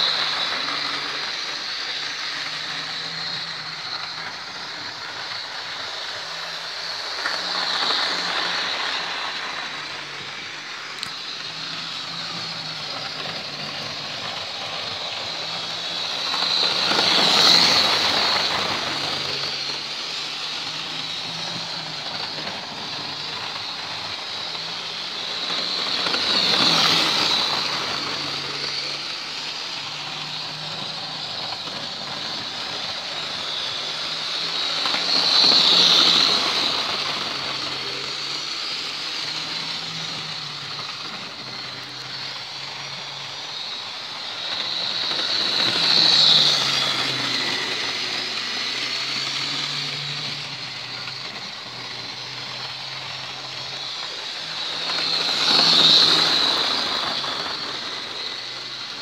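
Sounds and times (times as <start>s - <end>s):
model train motor whirring: 0.0s - 59.0s.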